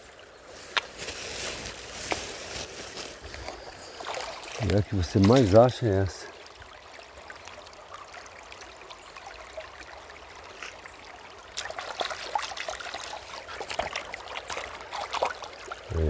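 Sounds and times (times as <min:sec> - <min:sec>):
stream water trickling over rocks: 0:00.0 - 0:16.0.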